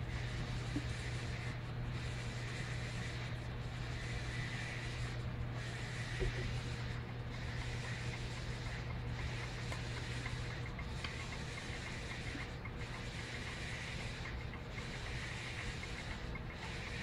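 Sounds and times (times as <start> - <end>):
equipment hum and ventilation hiss: 0.0 - 17.0.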